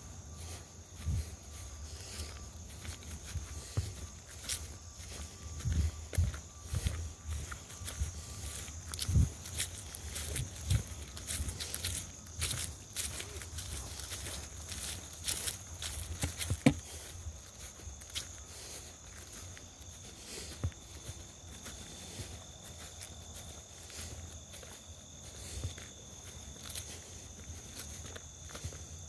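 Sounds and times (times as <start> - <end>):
footsteps: 0.0 - 29.0
insects chirring: 0.0 - 29.0.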